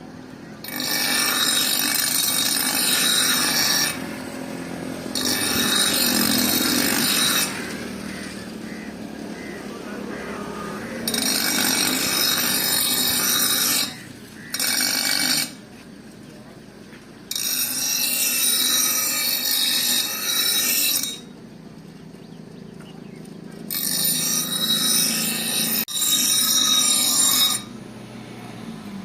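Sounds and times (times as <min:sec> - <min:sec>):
power grinder grinding steel: 0:00.5 - 0:16.0, 0:17.3 - 0:21.5, 0:23.5 - 0:29.0.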